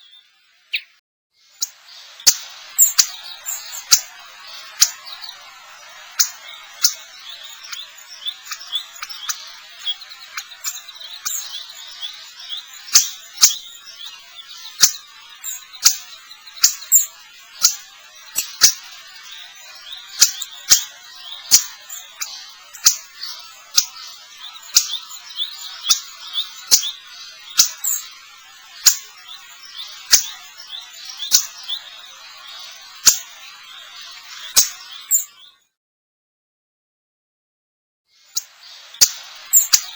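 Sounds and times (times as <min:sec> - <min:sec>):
finches chirping and twittering: 0:00.0 - 0:35.6, 0:38.1 - 0:39.9.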